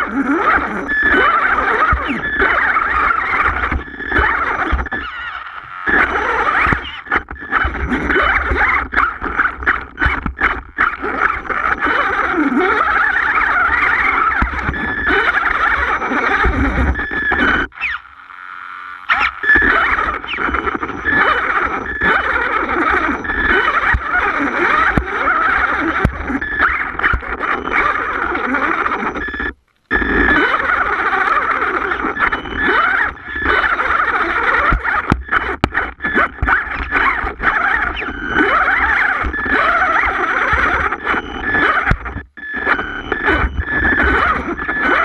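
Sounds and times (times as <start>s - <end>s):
electric toy truck motor whine: 0.0s - 45.0s.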